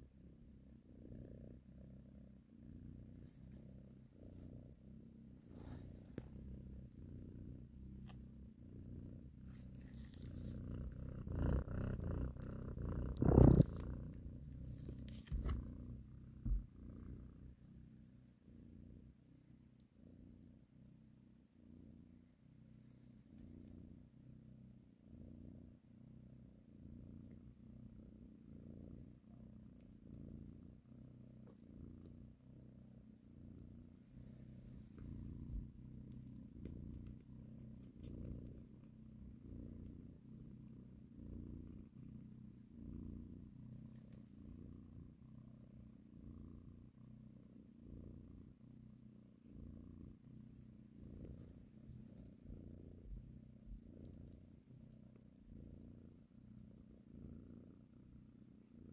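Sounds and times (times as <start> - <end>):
cat purring: 0.0 - 58.9.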